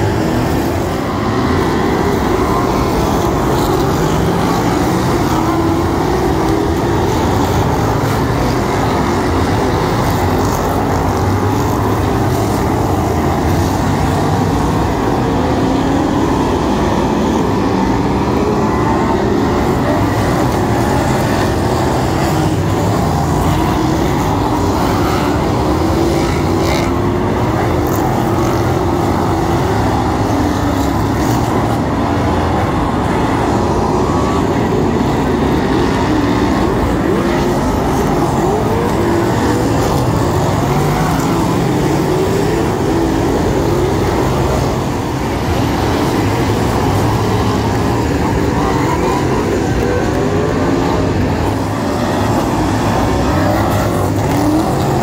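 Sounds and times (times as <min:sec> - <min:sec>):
racing car engines droning: 0:00.0 - 0:55.0.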